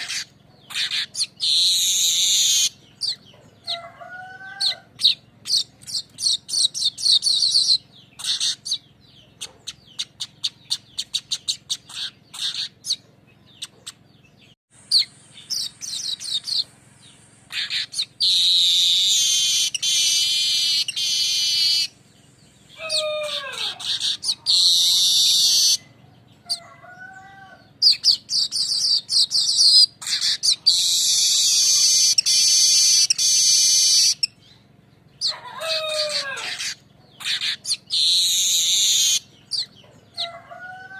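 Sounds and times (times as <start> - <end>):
bird buzzy rolling trills: 0.0 - 40.9.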